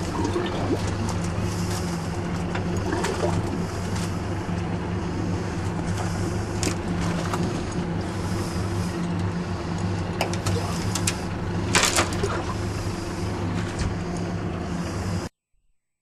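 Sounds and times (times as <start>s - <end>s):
boat engine humming: 0.0s - 15.3s.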